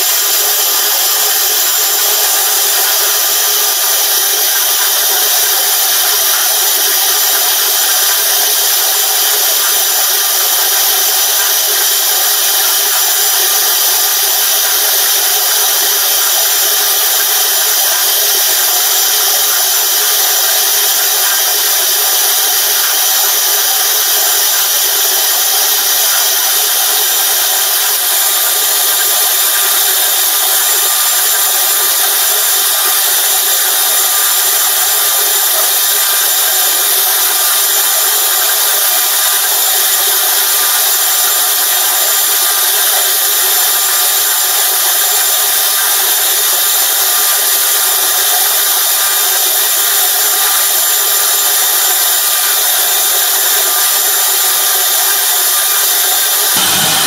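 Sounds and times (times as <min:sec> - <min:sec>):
router bit cutting foam hiss: 0:00.0 - 0:57.0.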